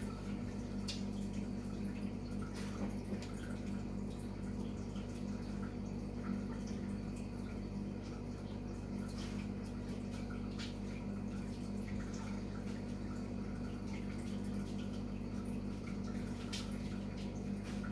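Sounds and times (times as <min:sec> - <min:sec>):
low electrical hum: 0:00.0 - 0:17.9.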